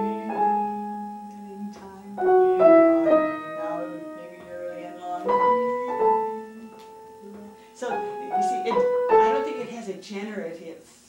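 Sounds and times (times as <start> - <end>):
piano chords: 0.0 - 10.4.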